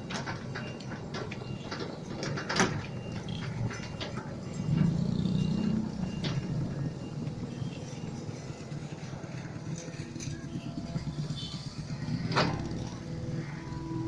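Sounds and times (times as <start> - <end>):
excavator engine drone: 0.0 - 14.0.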